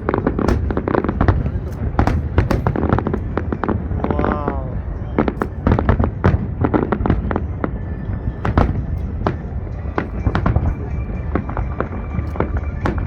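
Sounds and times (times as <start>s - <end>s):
fireworks bangs and cracks: 0.0s - 13.0s
low rumble of booms: 0.0s - 13.0s.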